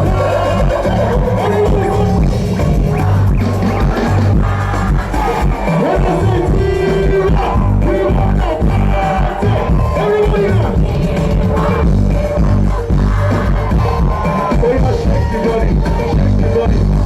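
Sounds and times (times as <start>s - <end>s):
loud live concert music: 0.0s - 17.0s.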